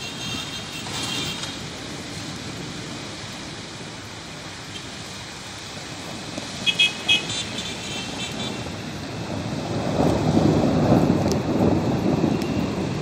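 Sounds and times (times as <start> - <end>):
heavy rain hissing: 0.0 - 13.0
street traffic: 0.0 - 13.0.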